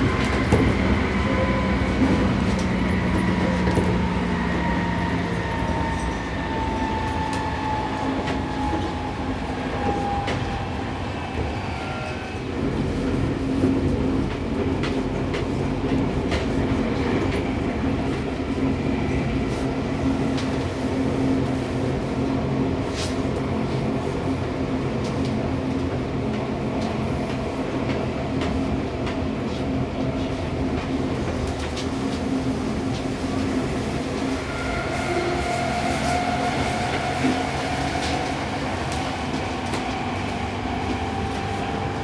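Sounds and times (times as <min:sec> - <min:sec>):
train running hum: 0:00.0 - 0:42.0.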